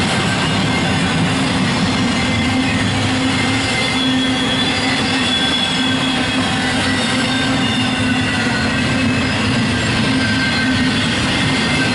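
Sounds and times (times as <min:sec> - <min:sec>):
freight train rumbling past: 0:00.0 - 0:11.9.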